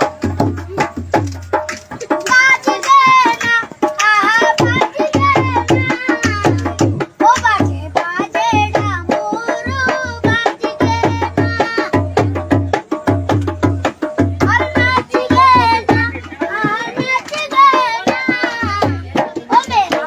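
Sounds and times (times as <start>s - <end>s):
boy singing folk song: 0.0s - 20.0s
drum and percussion beat: 0.0s - 20.0s.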